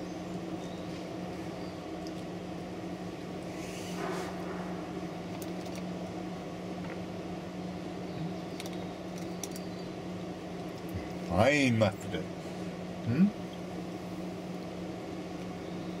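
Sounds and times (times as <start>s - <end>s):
cooling unit humming: 0.0s - 16.0s.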